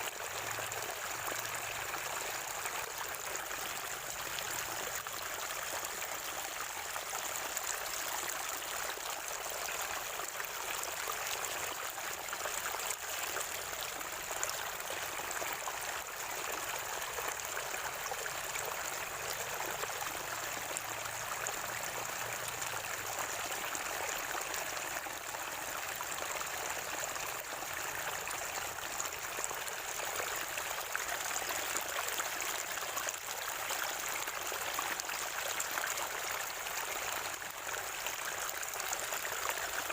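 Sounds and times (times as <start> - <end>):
spring water gurgling: 0.0 - 39.9.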